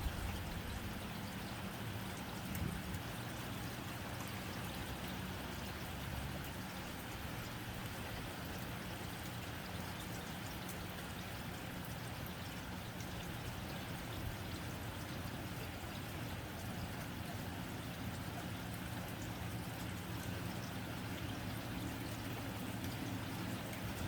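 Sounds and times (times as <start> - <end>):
low steady hum: 0.0 - 24.0
rain on a tin roof: 0.0 - 24.0.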